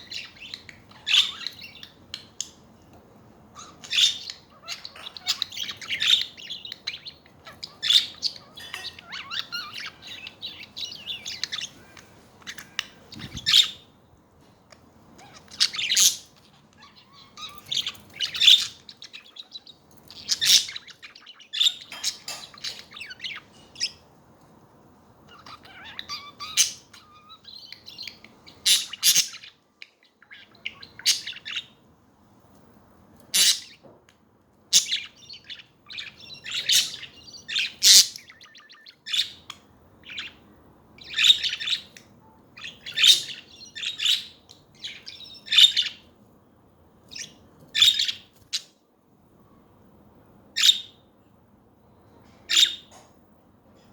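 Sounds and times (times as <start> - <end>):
budgies chirping and warbling: 0.0 - 2.7, 3.5 - 14.0, 14.7 - 24.3, 25.2 - 31.9, 33.2 - 33.9, 34.7 - 46.2, 47.0 - 48.8, 50.5 - 51.1, 52.4 - 53.0.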